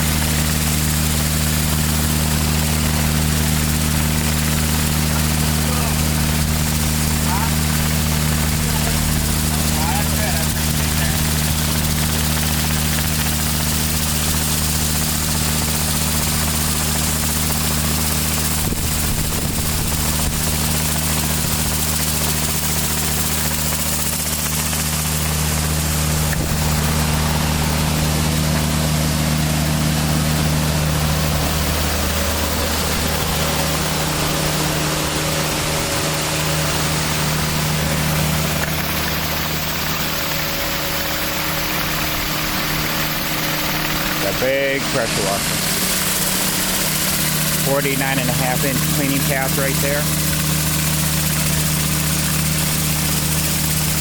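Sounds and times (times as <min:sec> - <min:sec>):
diesel engine running steadily: 0:00.0 - 0:54.0
high-pressure water spraying on concrete: 0:00.0 - 0:54.0.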